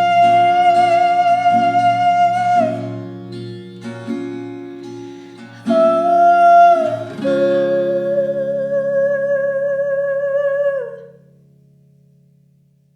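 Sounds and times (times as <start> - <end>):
acoustic guitar chords: 0.0 - 12.9.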